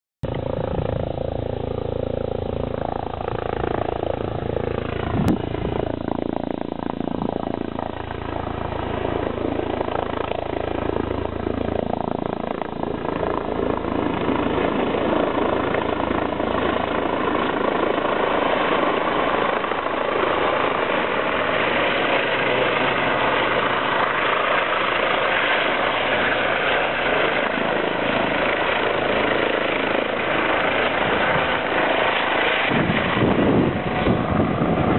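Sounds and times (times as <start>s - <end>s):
helicopter rotor and turbine: 0.2s - 34.9s.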